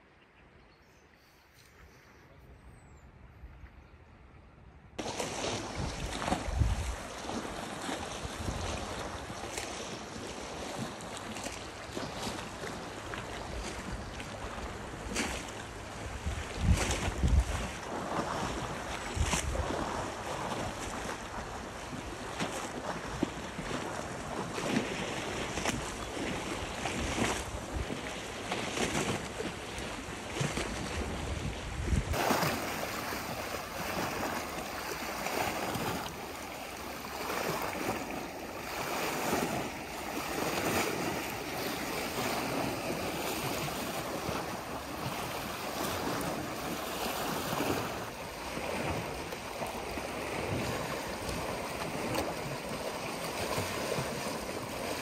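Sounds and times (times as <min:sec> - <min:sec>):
wind rumbling on microphone: 0:05.0 - 0:10.9, 0:11.9 - 0:55.0
sea waves washing in: 0:05.0 - 0:55.0.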